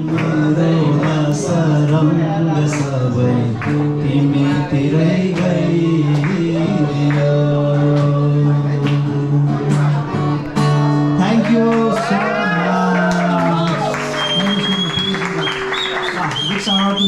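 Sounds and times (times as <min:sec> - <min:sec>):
man singing: 0:00.0 - 0:10.5, 0:11.1 - 0:15.1.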